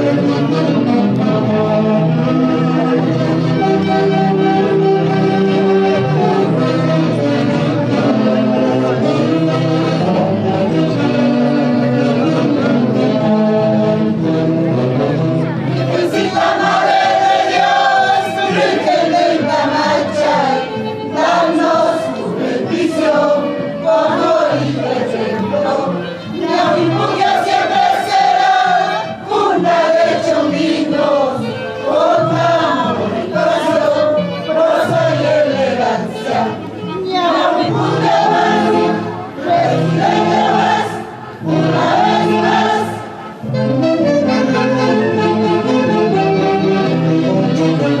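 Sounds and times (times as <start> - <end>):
group of voices singing: 0.0 - 46.4
band accompaniment: 0.0 - 48.0.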